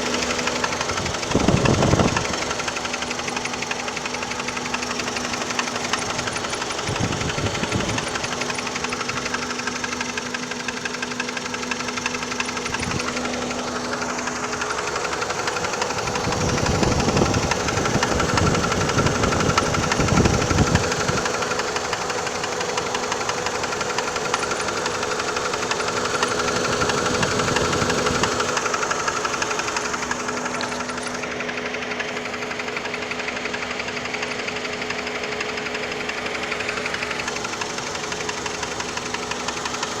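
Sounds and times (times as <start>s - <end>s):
car engine knocking: 0.0s - 40.0s.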